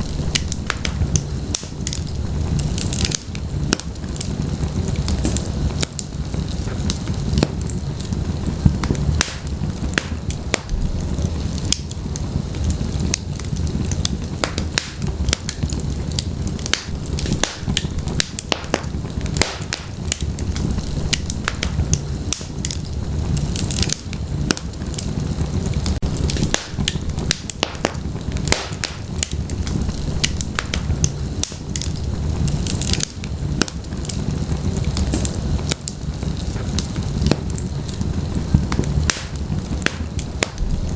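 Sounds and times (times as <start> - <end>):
fire flames rumbling: 0.0 - 40.9
logs crackling and popping: 0.0 - 40.9.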